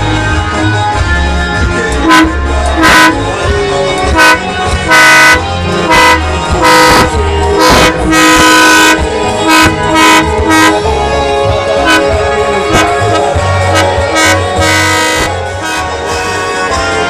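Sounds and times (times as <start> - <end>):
music with steady bass line: 0.0 - 17.0
pitched horn blasts: 2.0 - 10.9, 11.7 - 17.0.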